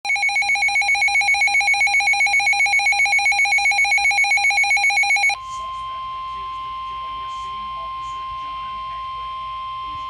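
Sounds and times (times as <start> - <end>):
pulsing electronic alarm beep: 0.0 - 10.0.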